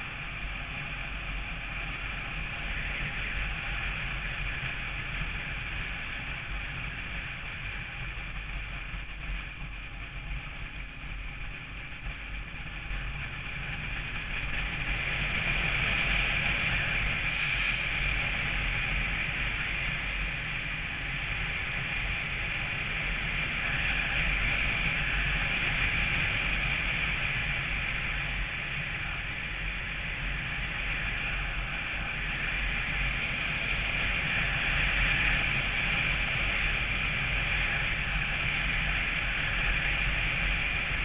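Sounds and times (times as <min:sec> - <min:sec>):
engine and road rumble: 0:00.0 - 0:41.0
wind rushing over microphone: 0:00.0 - 0:41.0.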